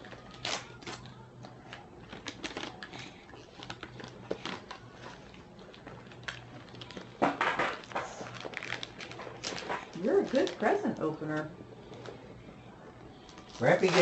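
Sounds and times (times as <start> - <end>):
wrapping paper crinkling and tearing: 0.0 - 10.8, 13.2 - 14.0.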